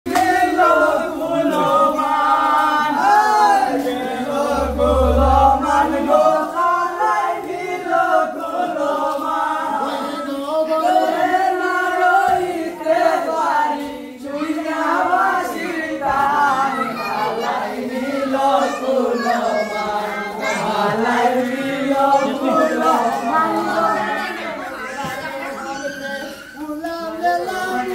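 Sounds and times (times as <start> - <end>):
group singing in chorus: 0.1 - 27.9.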